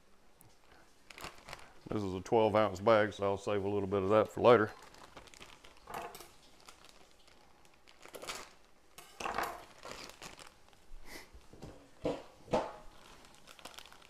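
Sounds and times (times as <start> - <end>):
plastic bag crinkling: 0.4 - 14.0.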